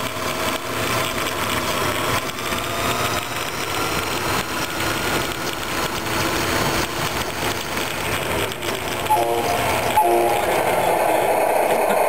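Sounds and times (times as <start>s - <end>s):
model trucks running: 0.0s - 12.0s.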